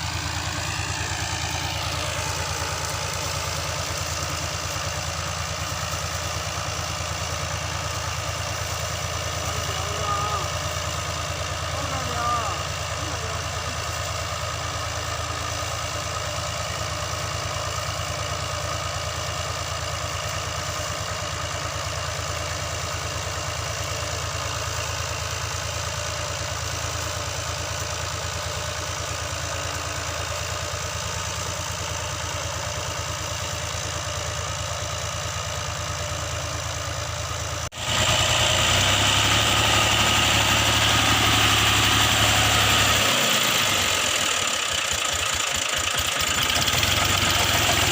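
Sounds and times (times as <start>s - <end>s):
harsh engine roar: 0.0s - 36.4s, 37.0s - 47.9s
diesel tractor engine idling: 0.0s - 47.9s.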